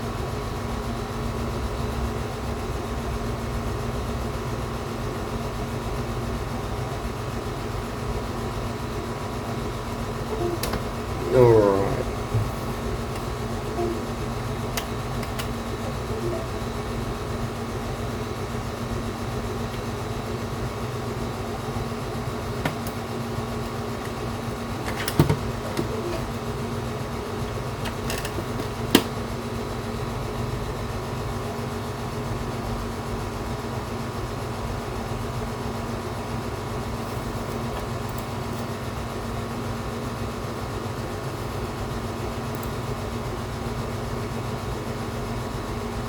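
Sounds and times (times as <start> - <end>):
fan-like mechanical hum: 0.0 - 46.0.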